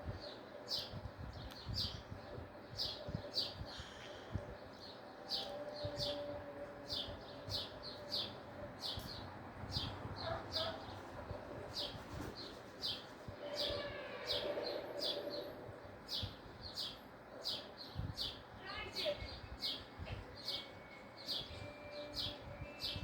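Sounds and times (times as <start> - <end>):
bird chirping: 0.1 - 23.0.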